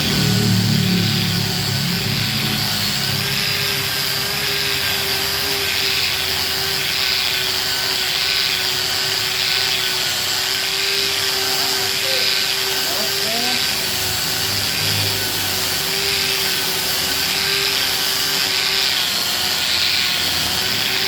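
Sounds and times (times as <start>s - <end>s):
angle grinder motor whine: 0.0s - 21.0s.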